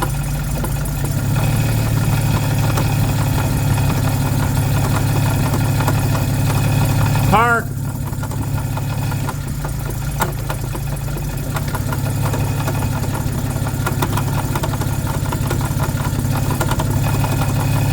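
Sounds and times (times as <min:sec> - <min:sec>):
car engine running: 0:00.0 - 0:17.9
rapid uneven clicking and knocking: 0:00.0 - 0:17.9.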